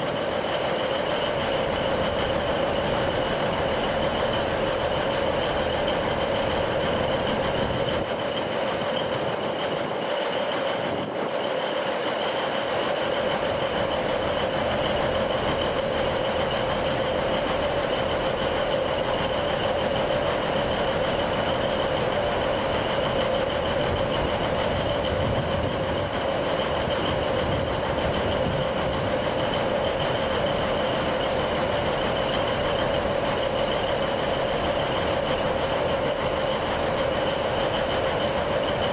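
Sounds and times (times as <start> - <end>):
rail vehicle running drone: 0.0 - 38.9.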